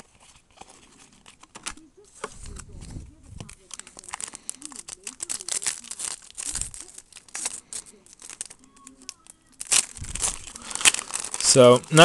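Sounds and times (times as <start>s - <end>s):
wrappers rustling and crinkling: 0.0s - 12.0s.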